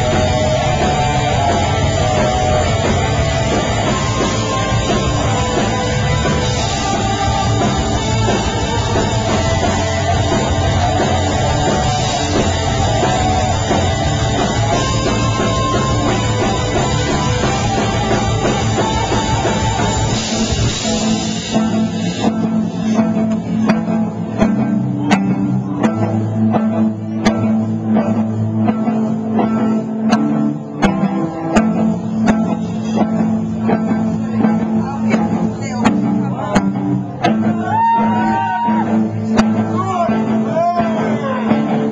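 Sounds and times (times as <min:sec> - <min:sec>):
rock band playing: 0:00.0 - 0:41.9
sustained guitar notes: 0:00.0 - 0:41.9.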